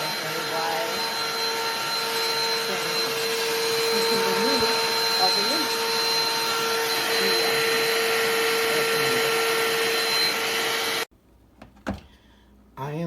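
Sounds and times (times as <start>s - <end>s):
handheld vacuum running: 0.0s - 11.1s.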